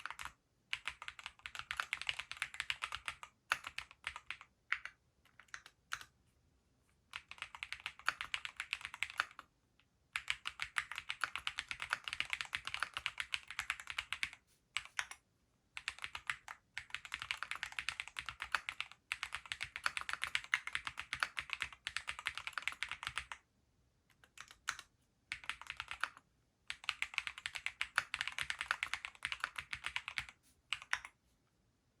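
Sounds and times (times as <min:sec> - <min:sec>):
typing on mechanical keyboard: 0:00.0 - 0:06.1, 0:07.1 - 0:09.5, 0:10.2 - 0:15.2, 0:15.8 - 0:23.4, 0:24.1 - 0:31.2.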